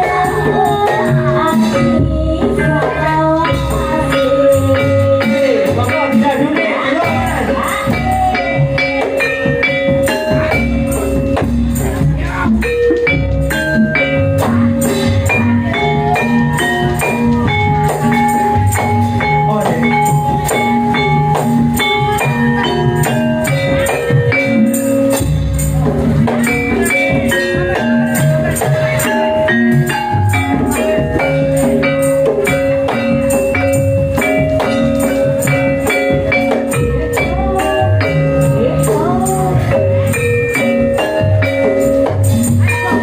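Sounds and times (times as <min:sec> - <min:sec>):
band melody of held notes: 0:00.0 - 0:43.0
jingling percussion: 0:00.0 - 0:43.0
steady drum beat: 0:00.0 - 0:43.0.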